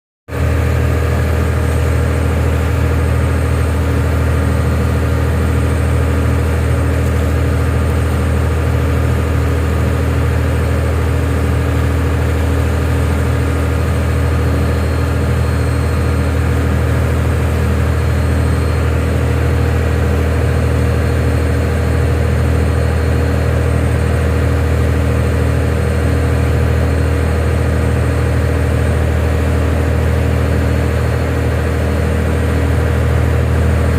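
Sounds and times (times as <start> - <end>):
heavy engine machinery drone: 0.3 - 33.9.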